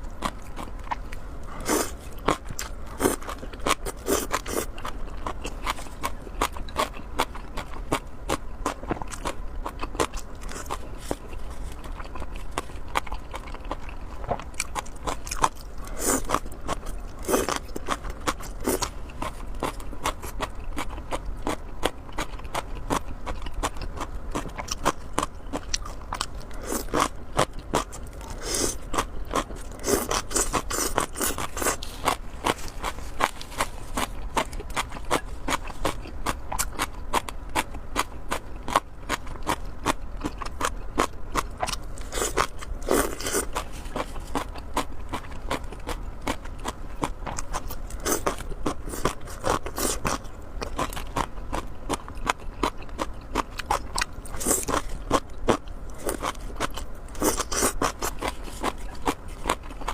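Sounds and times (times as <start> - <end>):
chewing and mouth smacks: 8.6 - 59.9.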